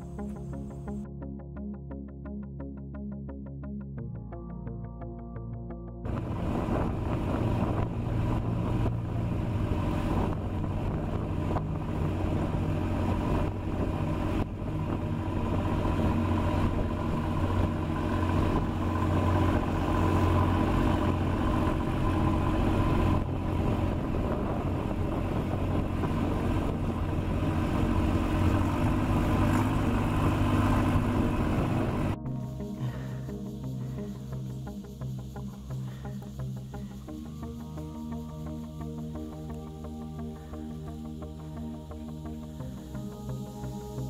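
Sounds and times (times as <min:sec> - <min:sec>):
boat engine droning: 0:00.0 - 0:01.0, 0:06.0 - 0:44.0.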